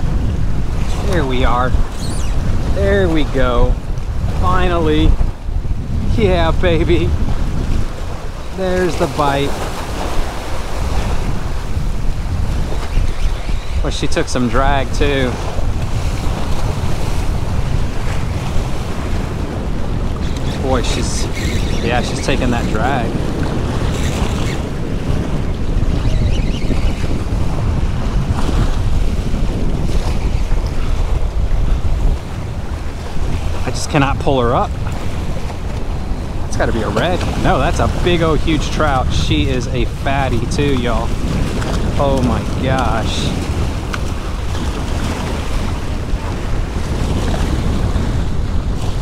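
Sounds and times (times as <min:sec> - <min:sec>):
wind buffeting microphone: 0:00.0 - 0:49.0
waves breaking on rocks: 0:06.1 - 0:26.0, 0:27.0 - 0:49.0.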